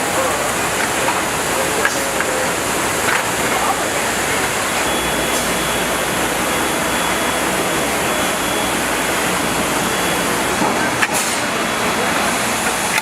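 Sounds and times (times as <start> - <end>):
thin high whine: 0.0 - 12.1.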